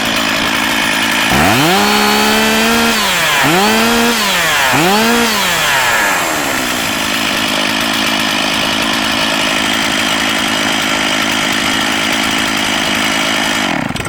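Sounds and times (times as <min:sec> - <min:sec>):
chainsaw idling: 0:00.0 - 0:14.0
chainsaw revving: 0:00.0 - 0:14.0.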